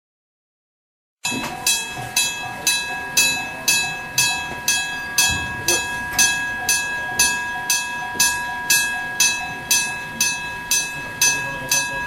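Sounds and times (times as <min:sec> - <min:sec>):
level crossing warning gong: 0:01.2 - 0:12.0.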